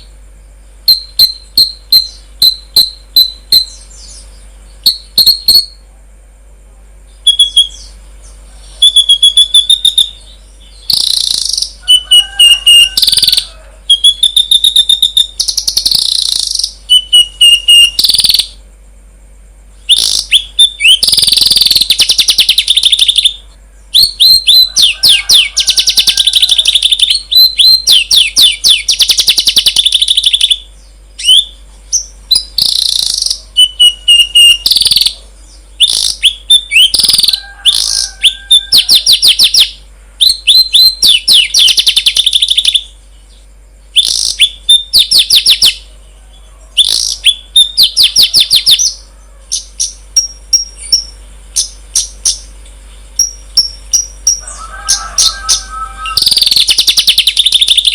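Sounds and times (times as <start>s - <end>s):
songbird chirps and trills: 0.0s - 57.9s.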